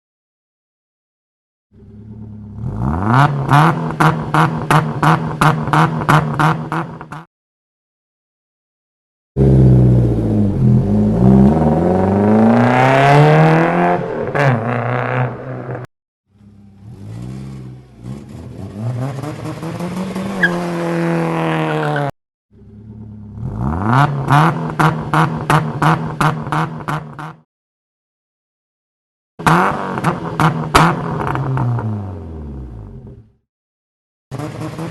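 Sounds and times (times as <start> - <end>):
engine revving: 1.8 - 7.3, 9.4 - 27.4, 29.4 - 33.2, 34.3 - 34.9.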